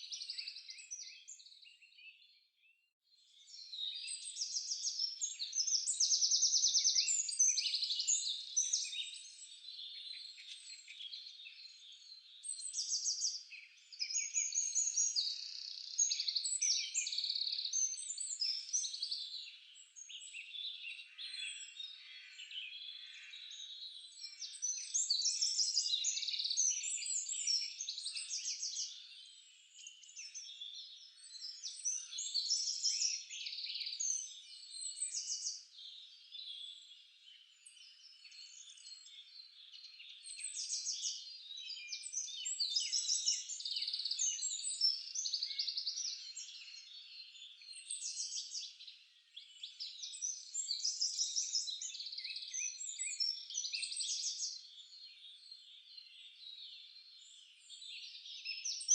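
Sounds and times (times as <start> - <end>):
songbirds singing in chorus: 0.0 - 58.9.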